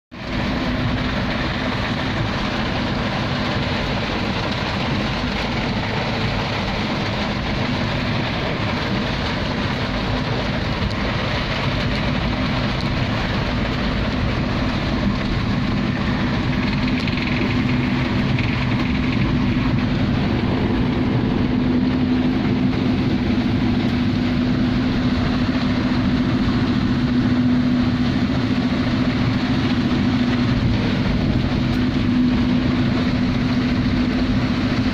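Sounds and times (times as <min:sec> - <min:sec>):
heavy rain on a vehicle: 0:00.1 - 0:34.9
low engine hum: 0:00.1 - 0:34.9.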